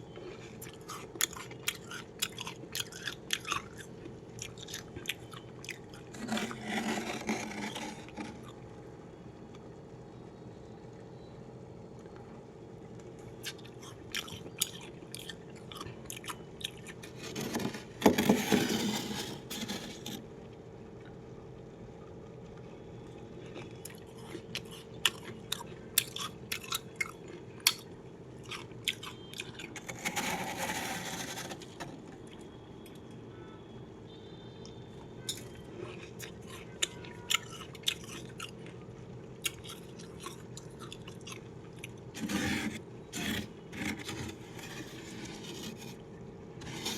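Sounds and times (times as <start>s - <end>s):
frost being chewed: 0.1s - 8.8s, 12.0s - 18.3s, 22.0s - 33.0s, 34.6s - 46.9s.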